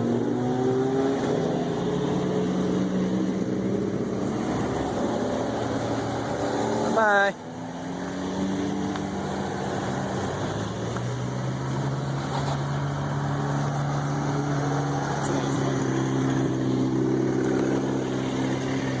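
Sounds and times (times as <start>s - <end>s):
car engine pulling away: 0.0s - 19.0s
car engines running: 0.0s - 19.0s.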